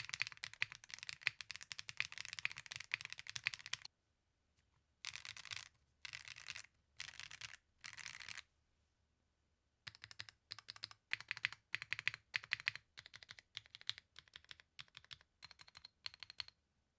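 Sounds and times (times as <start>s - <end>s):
mechanical keyboard typing: 0.0s - 3.9s, 5.1s - 8.4s, 9.9s - 16.6s.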